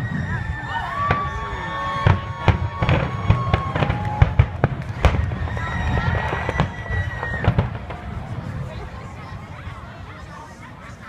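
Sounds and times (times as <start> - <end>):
fireworks bangs: 0.0 - 10.8
fireworks crackling: 0.0 - 11.0.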